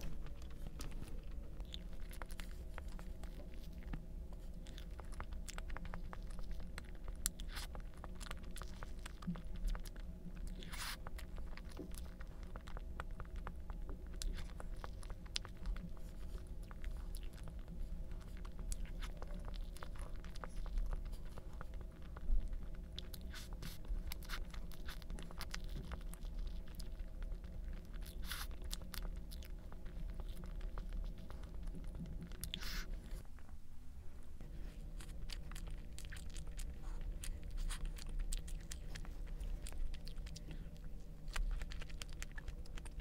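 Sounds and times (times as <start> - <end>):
person chewing crunchy food: 0.0 - 33.6, 34.5 - 43.0
low hum: 0.0 - 43.0.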